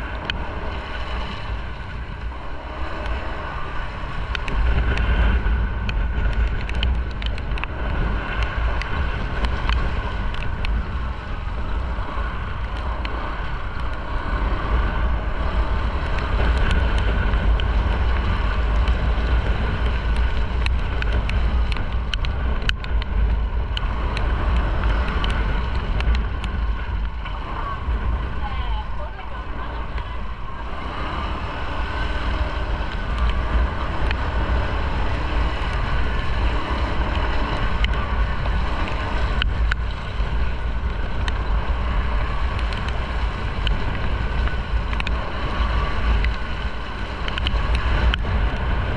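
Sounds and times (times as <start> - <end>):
motorcycle engine: 0.0 - 48.9
raindrops ticking on camera: 0.0 - 48.9
tyres on wet road: 0.0 - 48.9
wind on microphone: 0.0 - 48.9.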